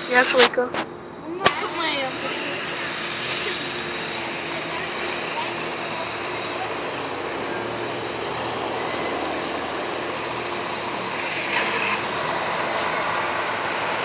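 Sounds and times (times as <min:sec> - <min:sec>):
vehicle engine and traffic: 0:00.0 - 0:14.0.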